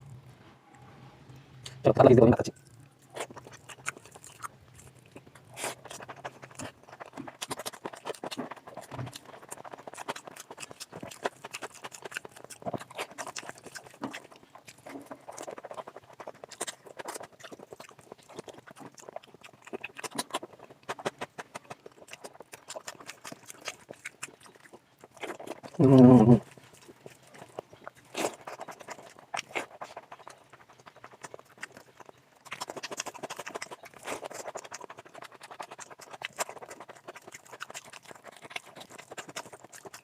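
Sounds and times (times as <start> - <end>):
wet chewing and lip smacking: 2.4 - 40.0.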